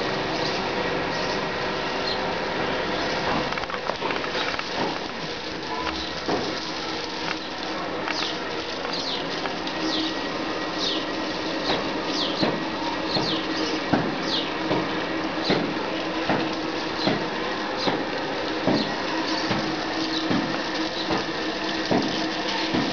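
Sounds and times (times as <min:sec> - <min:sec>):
garden hose spraying water: 0:00.0 - 0:22.9.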